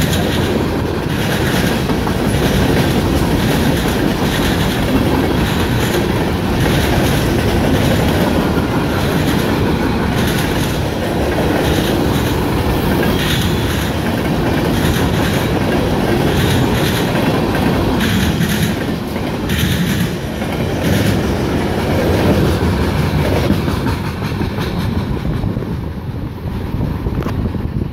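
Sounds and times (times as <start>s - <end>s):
wheels clickety-clack: 0.0s - 25.8s.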